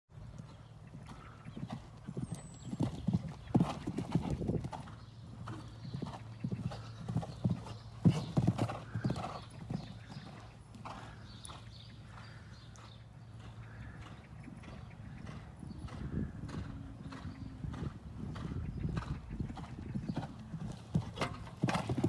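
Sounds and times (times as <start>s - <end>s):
horse hooves cantering on sand: 0.2s - 22.0s.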